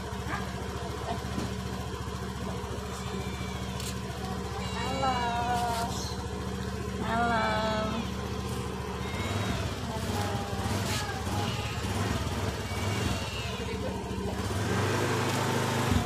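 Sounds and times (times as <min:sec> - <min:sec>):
faint voices: 0:00.0 - 0:14.7
engine running steady low hum: 0:00.0 - 0:16.0.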